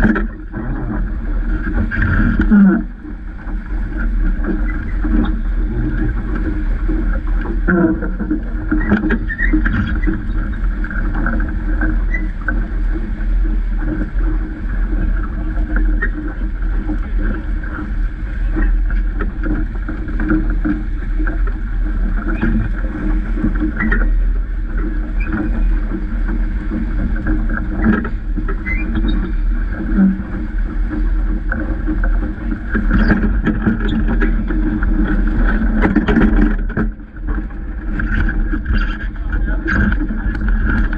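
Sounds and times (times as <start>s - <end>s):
boat knocks and slaps: 0.0s - 40.9s
water splashing along hull: 0.0s - 40.9s
wind on microphone: 0.0s - 40.9s.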